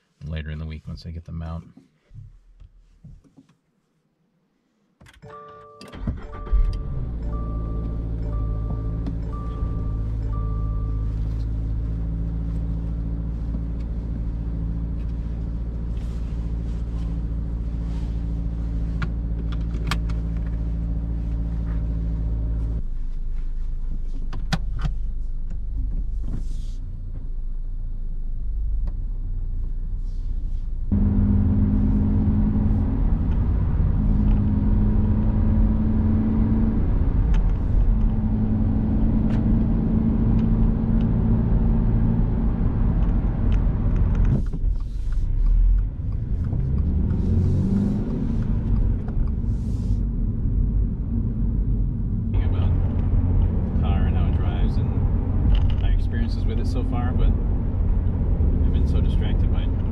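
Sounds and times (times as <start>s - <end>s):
car engine running: 5.9s - 26.5s, 30.9s - 59.9s
road rumble: 5.9s - 59.9s.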